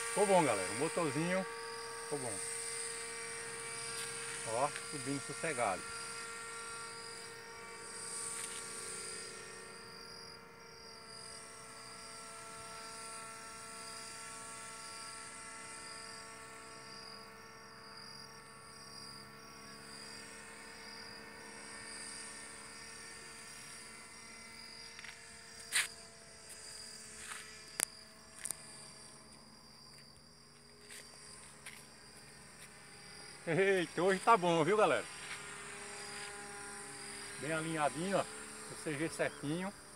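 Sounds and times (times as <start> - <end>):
insects chirping: 0.0 - 39.9
small motor and propeller humming: 0.0 - 39.9.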